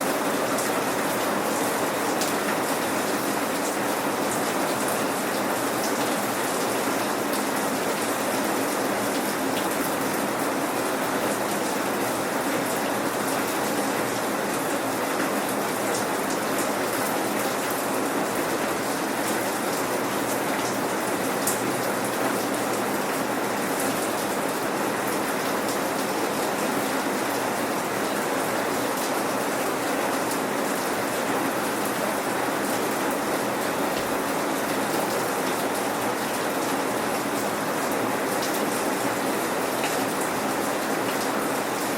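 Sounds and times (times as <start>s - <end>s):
light rain pattering: 0.0s - 41.9s.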